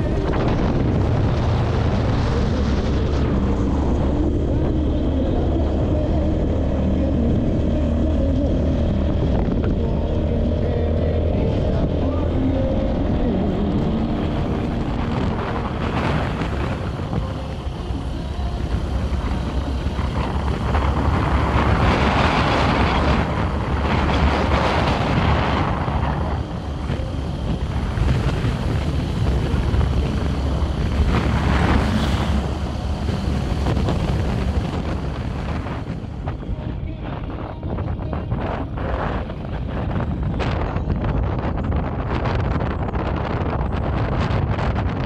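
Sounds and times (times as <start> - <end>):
vehicle engine and road rumble: 0.0 - 45.0
wind gusts on microphone: 0.0 - 45.0.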